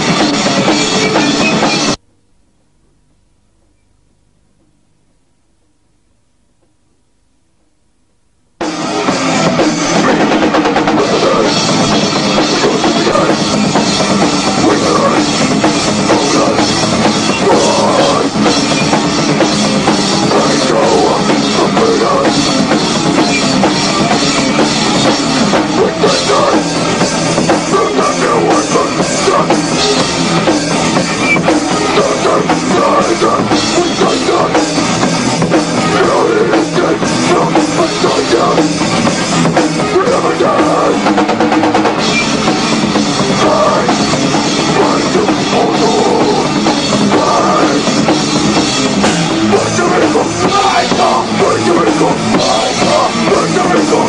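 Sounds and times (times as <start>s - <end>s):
metal band playing: 0.0s - 2.0s, 8.6s - 54.0s.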